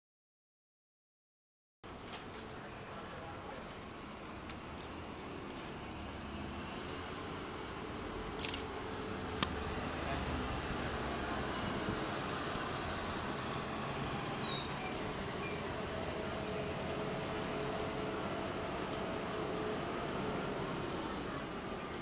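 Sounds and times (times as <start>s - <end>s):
bus engine driving past: 2.0s - 22.0s.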